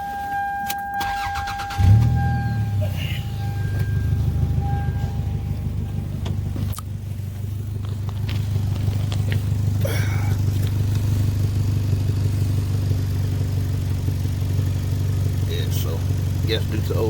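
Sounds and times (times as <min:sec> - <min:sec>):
car engine idling with sputtering exhaust: 0:01.0 - 0:17.0.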